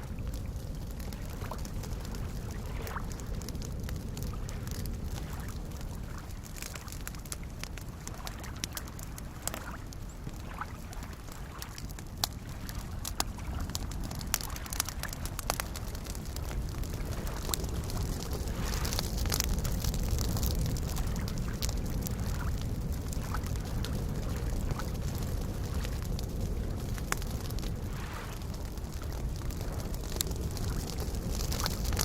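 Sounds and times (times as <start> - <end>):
wood fire crackling and popping: 0.0 - 32.0
water lapping: 1.0 - 32.0.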